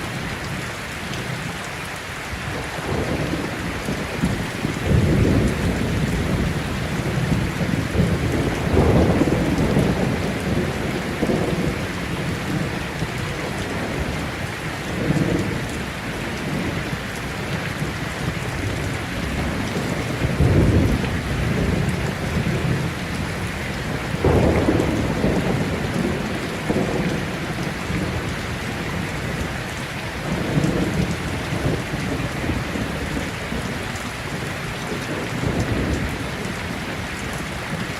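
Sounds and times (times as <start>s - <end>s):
heavy rain falling: 0.0s - 37.9s
thunder rumbling: 2.4s - 37.9s.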